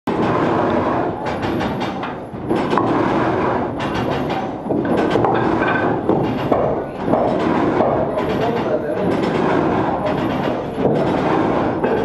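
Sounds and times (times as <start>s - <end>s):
sawmill machinery clattering: 0.1s - 12.0s.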